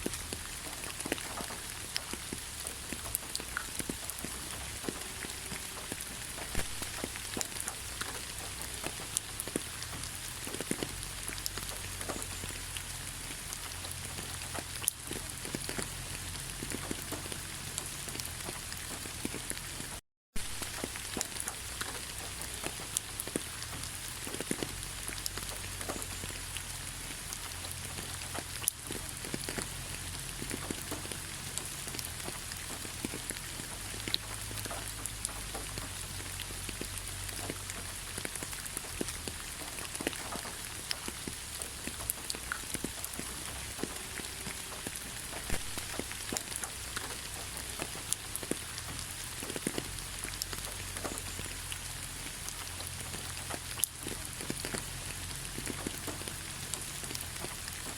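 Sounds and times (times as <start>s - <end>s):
rain falling in forest: 0.0s - 57.9s
raindrops ticking close by: 0.0s - 57.9s.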